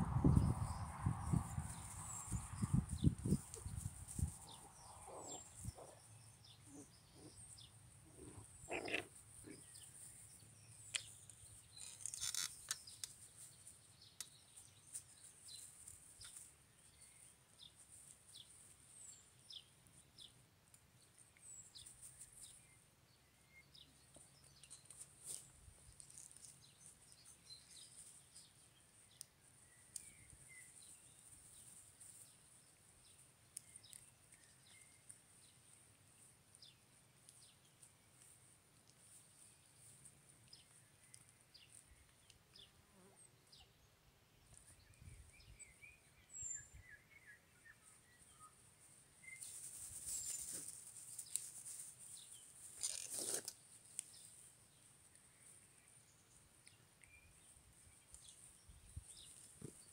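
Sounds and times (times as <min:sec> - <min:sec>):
small birds chirping: 0:00.2 - 0:59.9.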